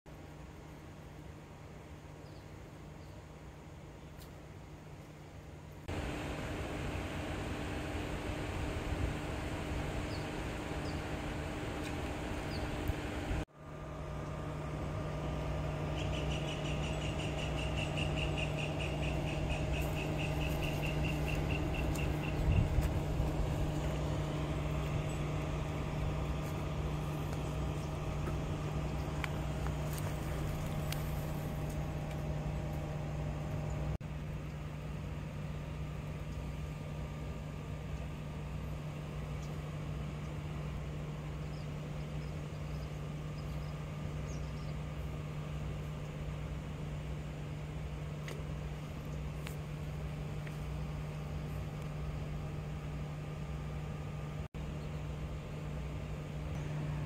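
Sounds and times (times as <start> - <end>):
low engine hum: 0.1 - 57.0
outdoor ambience: 0.1 - 57.0.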